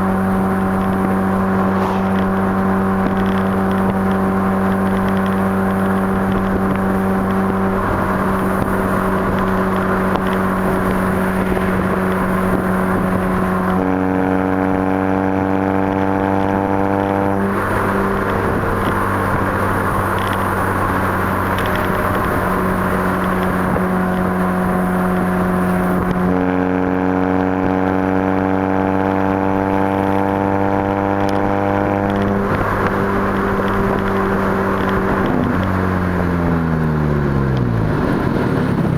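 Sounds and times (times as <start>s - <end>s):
car exhaust revving: 0.0s - 38.9s.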